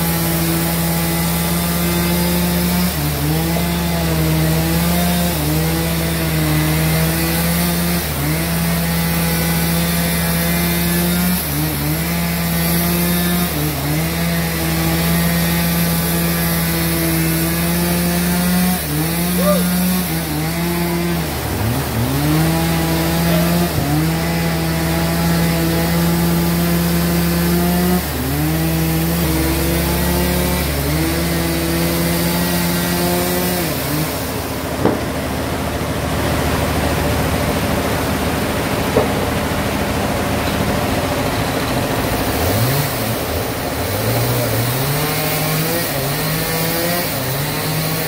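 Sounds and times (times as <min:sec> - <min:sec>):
engine revving: 0:00.0 - 0:48.0.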